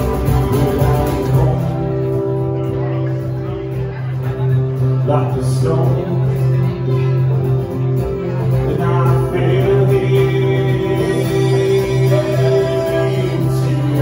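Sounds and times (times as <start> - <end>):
band playing live music: 0.0 - 14.0
guitar: 0.0 - 14.0.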